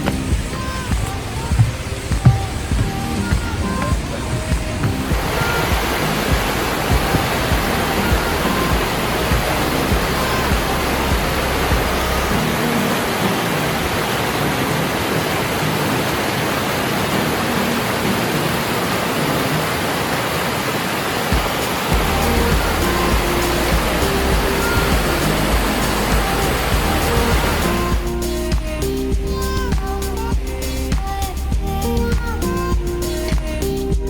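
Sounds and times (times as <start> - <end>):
background music: 0.0 - 19.4, 21.3 - 34.0
rushing stream water: 0.0 - 34.0.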